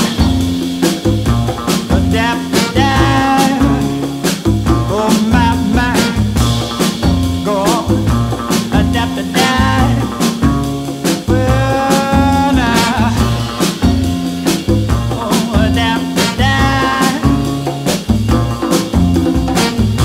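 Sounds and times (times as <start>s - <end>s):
bass line: 0.0s - 20.0s
soul band playing: 0.0s - 20.0s
steady drum beat: 0.0s - 20.0s.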